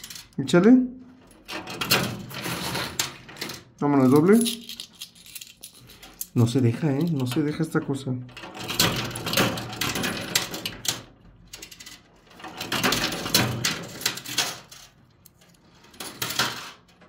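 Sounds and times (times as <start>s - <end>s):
coins clinking in coin pusher: 0.0s - 0.4s, 1.6s - 7.5s, 8.5s - 16.9s.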